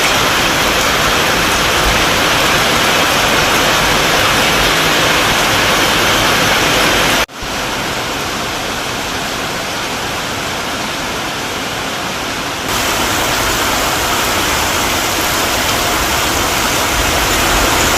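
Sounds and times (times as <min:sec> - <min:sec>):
heavy rain pouring: 0:00.0 - 0:17.9.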